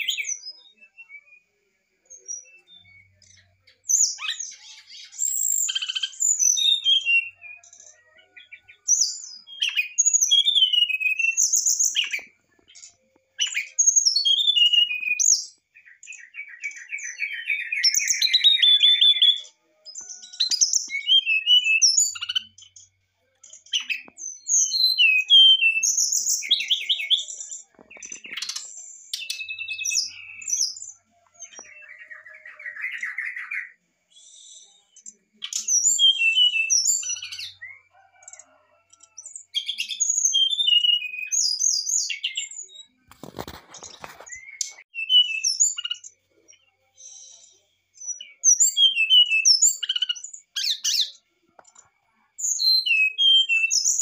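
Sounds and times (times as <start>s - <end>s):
bird singing whistles and trills: 0.0s - 22.8s, 23.7s - 43.0s, 44.0s - 51.2s, 52.4s - 54.0s.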